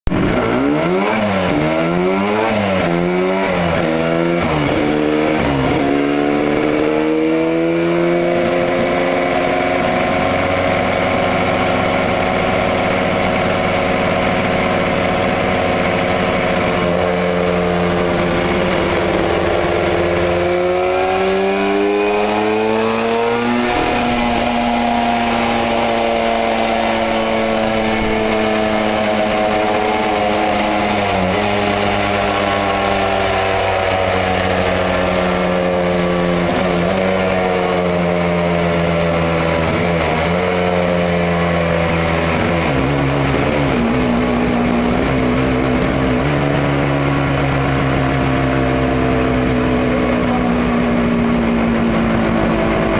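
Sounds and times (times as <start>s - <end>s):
motorcycle engine revving on dyno: 0.1s - 52.9s.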